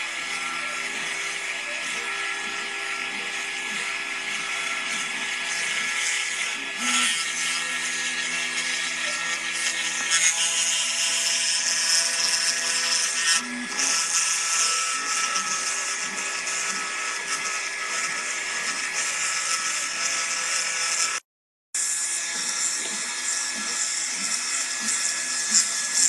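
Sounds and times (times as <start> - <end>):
router bit hissing through wood: 0.0 - 21.2, 21.8 - 26.0.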